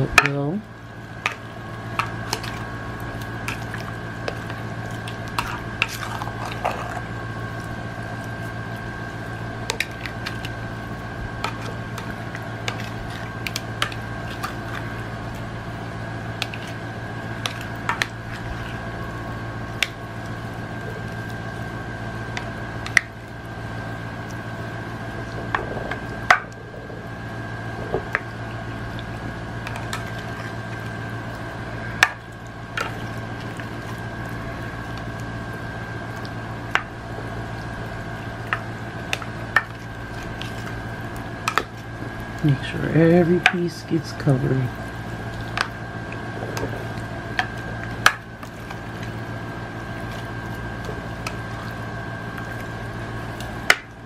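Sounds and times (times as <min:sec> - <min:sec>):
steady hum: 0:00.0 - 0:54.0
wet squishing of meat in marinade: 0:00.5 - 0:54.0.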